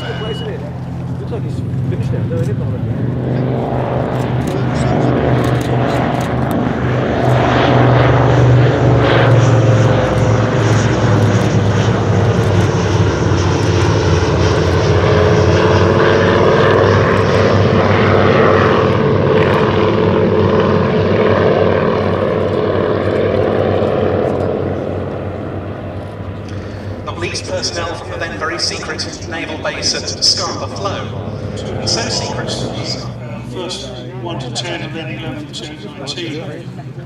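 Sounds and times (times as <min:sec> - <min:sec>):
propeller planes droning past: 0:00.0 - 0:37.0.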